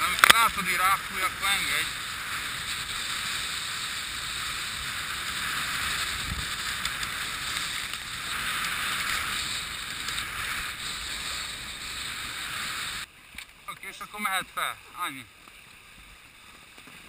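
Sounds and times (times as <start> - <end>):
rush of water and spray: 0.0 - 17.0.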